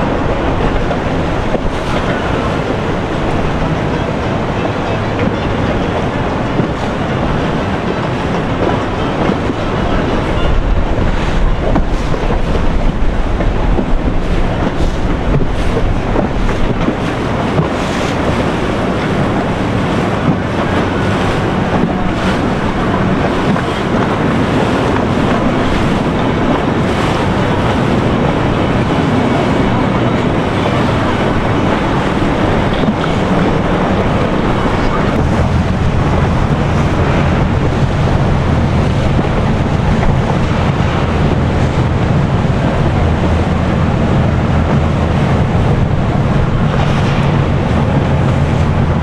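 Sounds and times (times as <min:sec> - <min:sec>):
boat engines running: 0:00.0 - 0:49.0
churning water: 0:00.0 - 0:49.0
wind buffeting microphone: 0:00.0 - 0:49.0.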